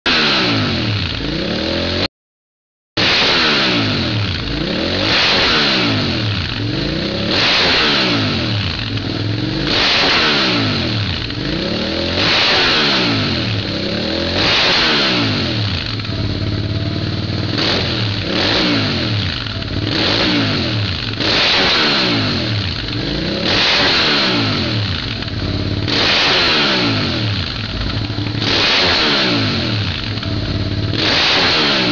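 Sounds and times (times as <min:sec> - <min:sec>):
motorcycle engine revving: 0:00.0 - 0:02.1, 0:03.0 - 0:31.9.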